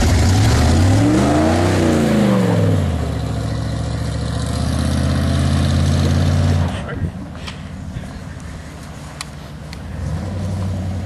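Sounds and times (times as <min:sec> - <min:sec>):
pickup truck engine passing: 0:00.0 - 0:11.0.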